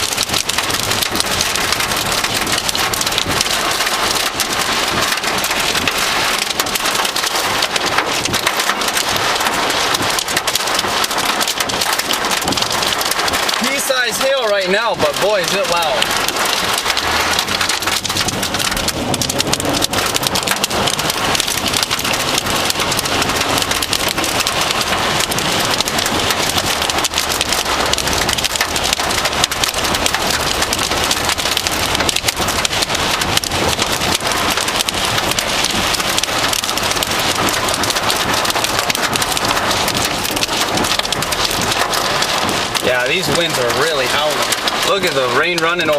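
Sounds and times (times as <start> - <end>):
heavy rain pelting down: 0.0 - 45.9.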